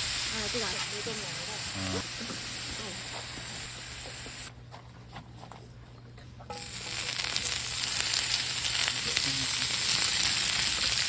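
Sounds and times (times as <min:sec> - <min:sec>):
food sizzling in a pan: 0:00.0 - 0:04.5, 0:06.5 - 0:11.0.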